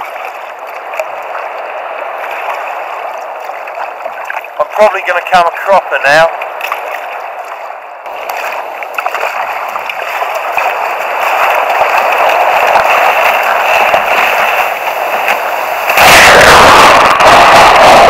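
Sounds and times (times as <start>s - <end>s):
surf rushing and splashing: 0.0s - 18.0s
wave crashing over kayak: 0.0s - 18.0s.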